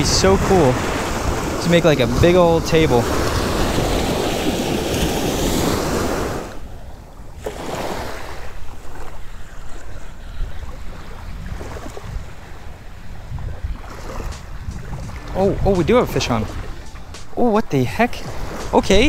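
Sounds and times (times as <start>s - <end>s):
wind rumbling on microphone: 0.0s - 17.4s
small waves lapping: 0.0s - 19.0s
surf washing up beach: 0.0s - 19.0s.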